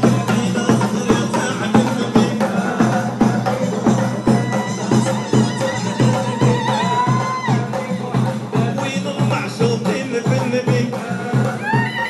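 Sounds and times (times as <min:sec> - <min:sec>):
frame drums and hand drums: 0:00.0 - 0:12.0.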